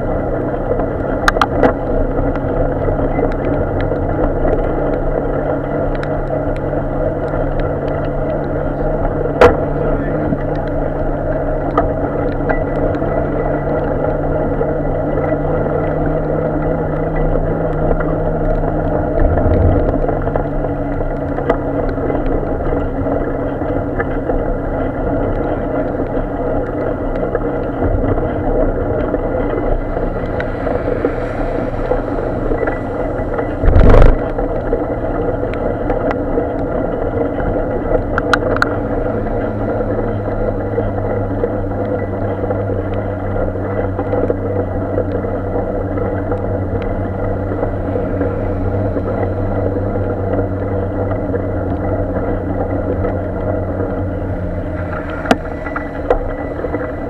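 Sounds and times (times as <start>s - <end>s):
road traffic drone: 0.0s - 57.0s.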